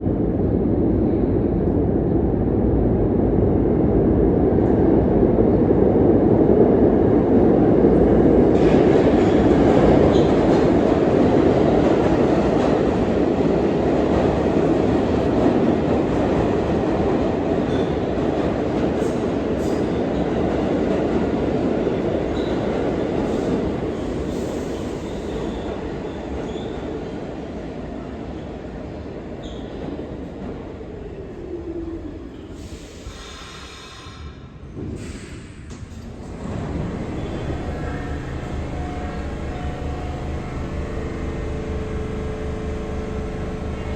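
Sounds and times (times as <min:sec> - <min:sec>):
subway train wheels rumbling on rail: 0:00.0 - 0:43.9.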